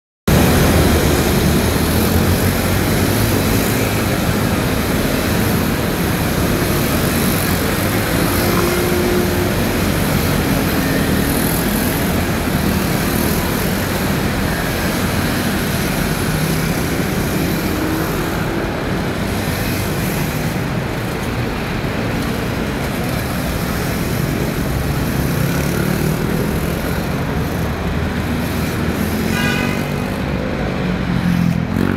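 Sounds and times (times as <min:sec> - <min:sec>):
many scooter engines droning: 0:00.3 - 0:31.9.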